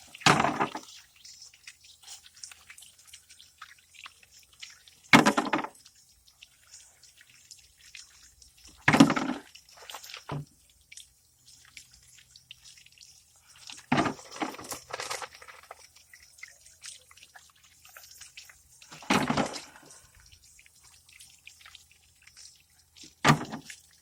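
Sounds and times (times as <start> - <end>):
water dripping and splashing: 0.0 - 24.0.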